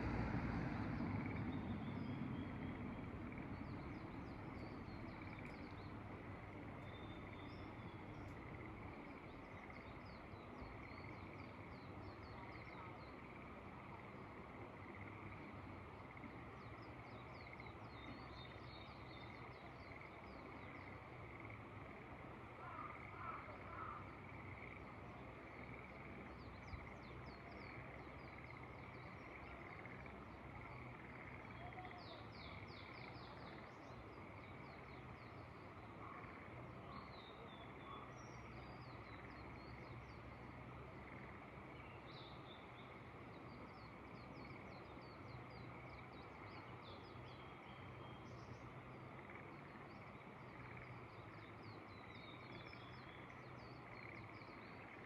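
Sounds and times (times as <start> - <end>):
frogs chorus: 0.0 - 55.0.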